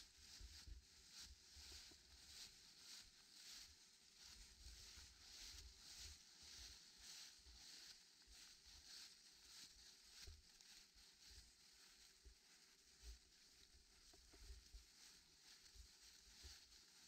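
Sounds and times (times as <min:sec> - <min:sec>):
footsteps crunching dry leaves: 0:00.1 - 0:17.0.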